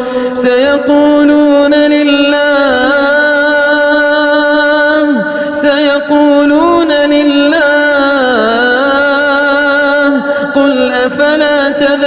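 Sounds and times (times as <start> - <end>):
melodic recitation voice: 0.0 - 12.0.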